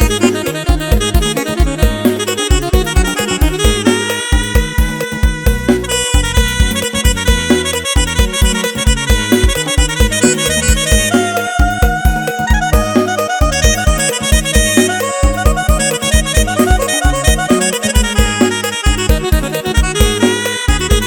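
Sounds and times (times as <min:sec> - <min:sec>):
electronic organ dance groove: 0:00.0 - 0:21.0
heavy bass drum hits: 0:00.0 - 0:21.0
reedy lead melody: 0:00.0 - 0:21.0.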